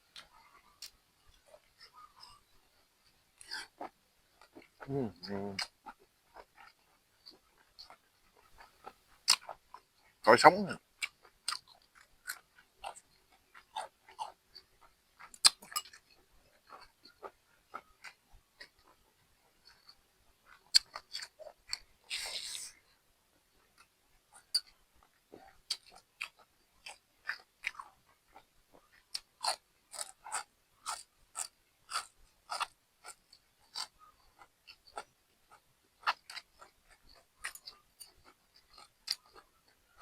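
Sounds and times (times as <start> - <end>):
person chewing crunchy food: 0.1 - 40.0.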